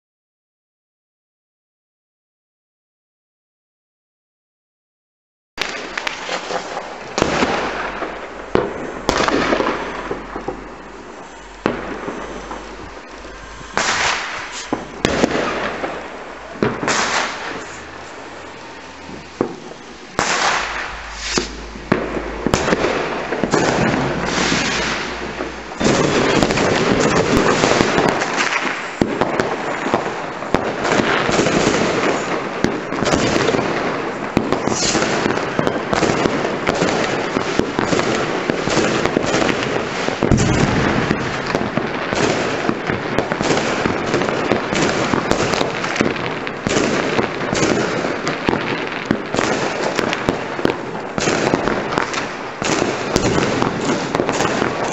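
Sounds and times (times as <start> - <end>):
fireworks and firecrackers crackling: 5.6 - 54.9.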